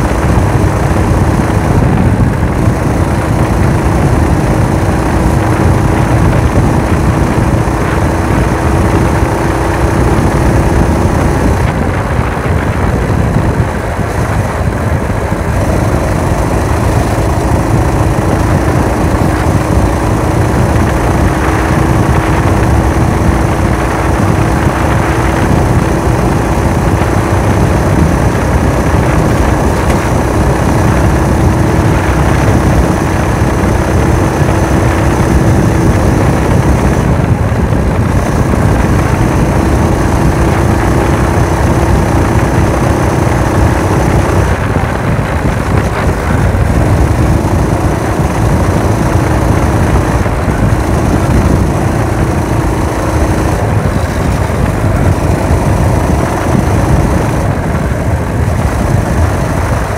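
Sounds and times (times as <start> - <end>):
small engine running: 0.0 - 59.9
wind rush on microphone: 0.0 - 59.9.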